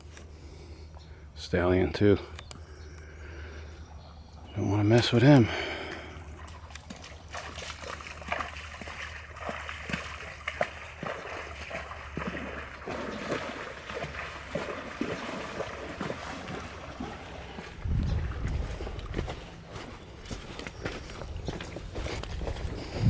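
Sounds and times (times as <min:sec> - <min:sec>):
river water splashing and trickling: 0:03.2 - 0:23.0.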